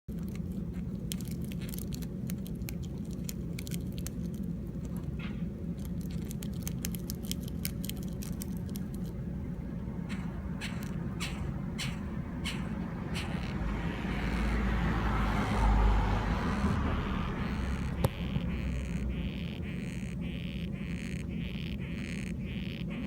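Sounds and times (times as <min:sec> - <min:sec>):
beetles clicking and rasping: 0:00.1 - 0:23.0
steady low hum: 0:00.1 - 0:23.0.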